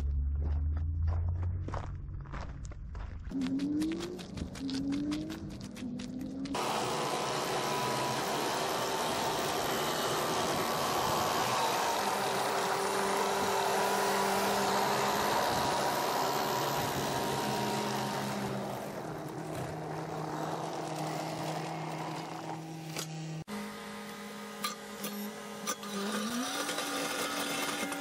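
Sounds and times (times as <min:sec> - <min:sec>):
diesel engine running: 0:00.0 - 0:26.4.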